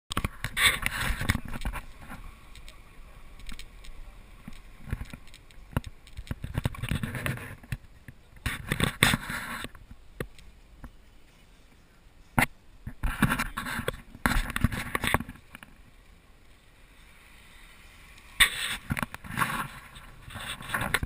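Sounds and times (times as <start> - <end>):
road and engine rumble: 0.1 - 21.0.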